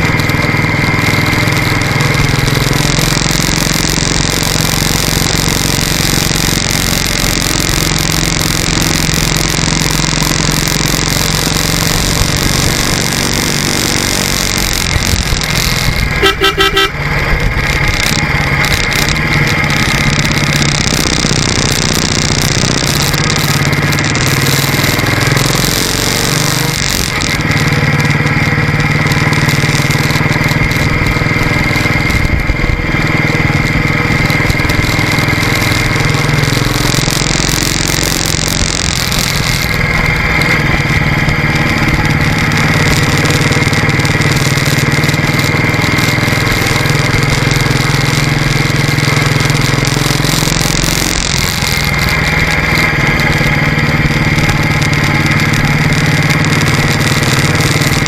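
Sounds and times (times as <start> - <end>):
motorcycle engine running: 0.0 - 58.0
wind and tyre noise: 0.0 - 58.0.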